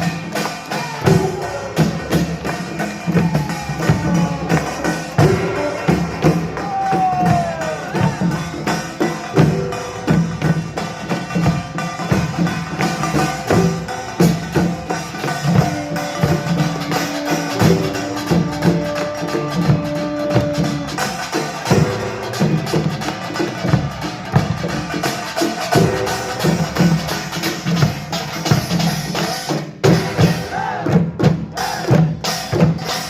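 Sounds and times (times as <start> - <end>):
drums playing fast rhythm: 0.0 - 33.0.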